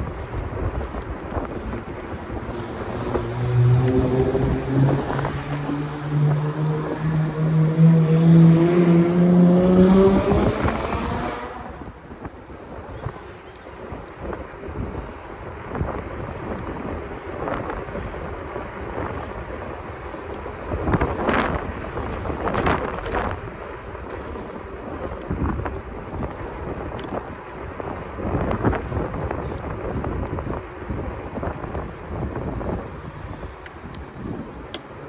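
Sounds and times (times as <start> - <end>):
electric scooter road rumble: 0.0 - 35.0
wind buffeting microphone: 0.0 - 35.0.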